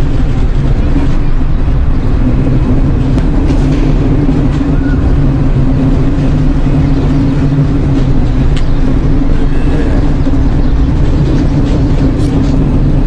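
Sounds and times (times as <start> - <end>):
dense rumble: 0.0 - 13.0
loud low drone: 0.0 - 13.0.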